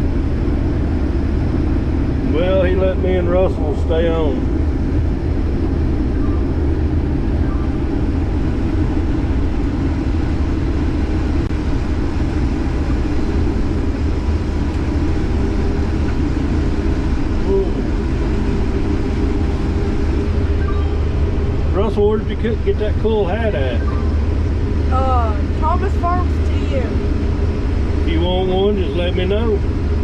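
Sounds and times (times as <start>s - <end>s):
combine harvester drone: 0.0s - 30.0s.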